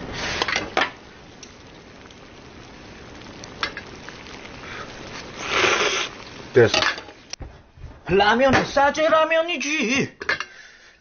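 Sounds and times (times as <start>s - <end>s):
water boiling in a pot: 0.0s - 11.0s.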